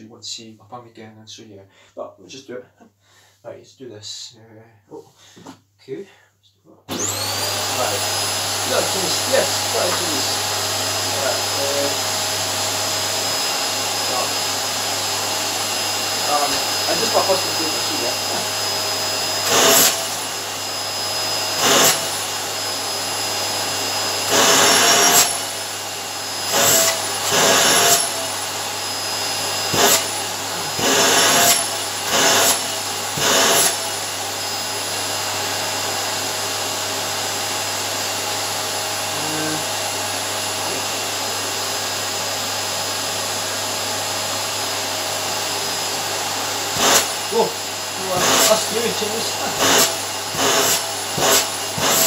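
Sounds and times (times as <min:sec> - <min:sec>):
vacuum cleaner on carpet: 0:06.9 - 0:52.0.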